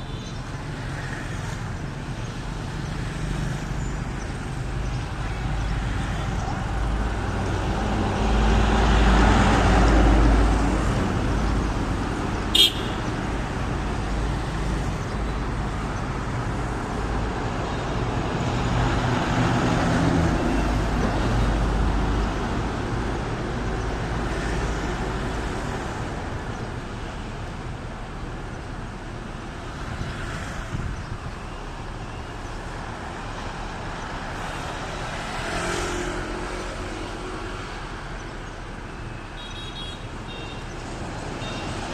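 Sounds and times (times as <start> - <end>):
vehicles passing: 0.0 - 41.9.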